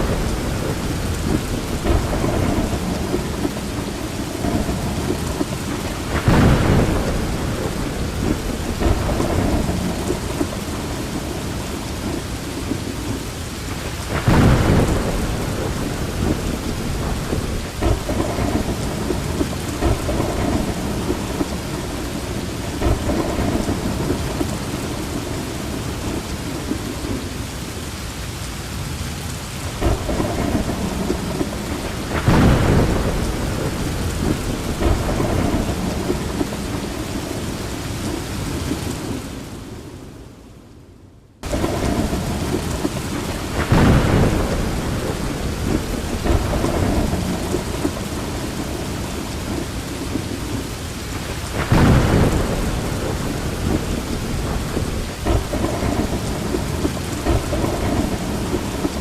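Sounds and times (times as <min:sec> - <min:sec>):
steady rain: 0:00.0 - 0:59.0
thunder rumbles: 0:00.0 - 0:59.0.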